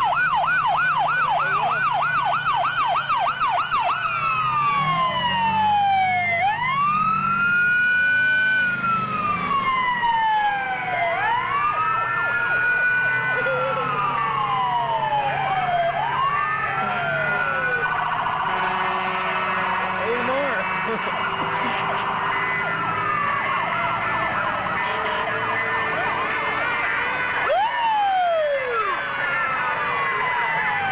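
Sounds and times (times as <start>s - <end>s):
ambulance siren wailing: 0.0s - 30.9s
steady siren tone: 0.0s - 30.9s
vehicle engines running: 0.0s - 30.9s.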